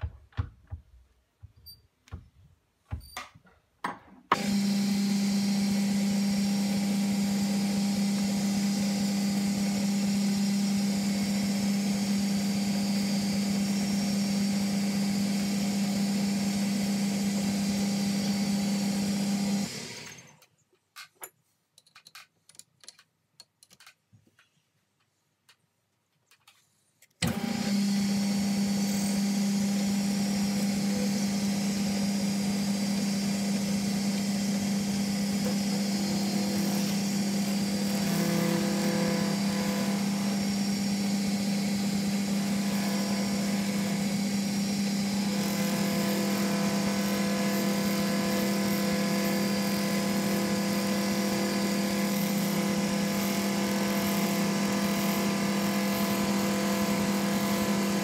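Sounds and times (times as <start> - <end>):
lathe motor humming: 4.4 - 20.3, 27.2 - 58.0.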